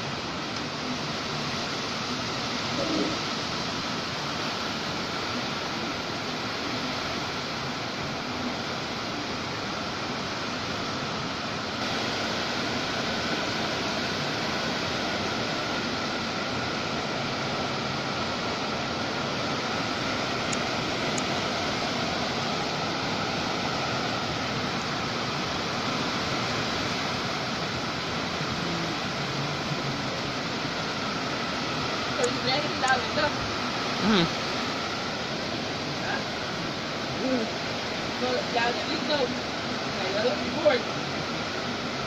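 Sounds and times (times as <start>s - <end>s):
rain: 0.0s - 42.0s
wind: 0.0s - 42.0s.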